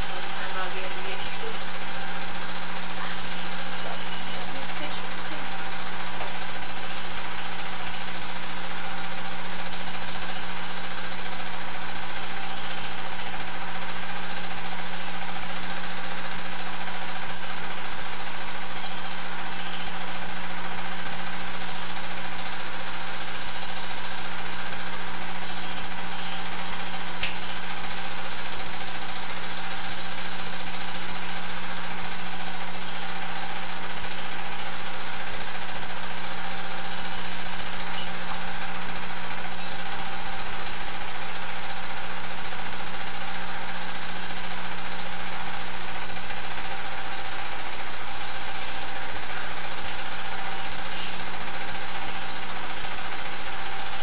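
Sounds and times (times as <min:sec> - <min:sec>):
film projector motor hum: 0:00.0 - 0:54.0.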